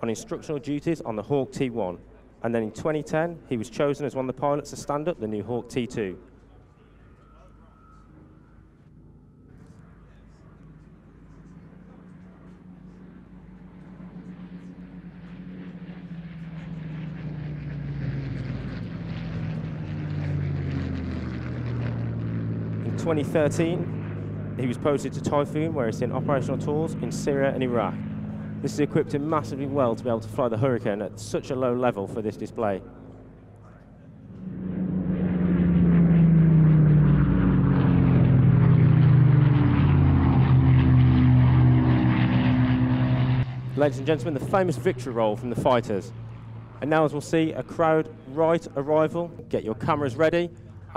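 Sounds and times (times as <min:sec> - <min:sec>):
propeller plane engine drone: 0:00.0 - 0:50.9.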